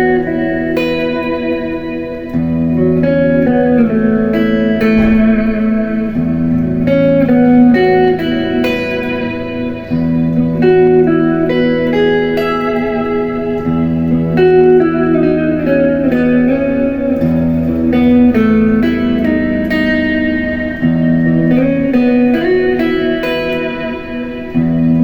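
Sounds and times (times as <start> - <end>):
clean electric guitar melody: 0.0 - 25.0.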